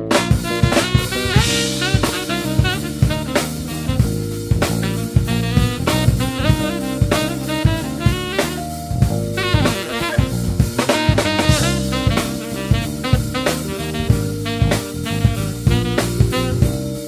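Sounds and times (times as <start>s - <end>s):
drum kit: 0.0s - 17.0s
electric bass guitar: 0.0s - 17.0s
saxophone lead: 0.0s - 17.0s.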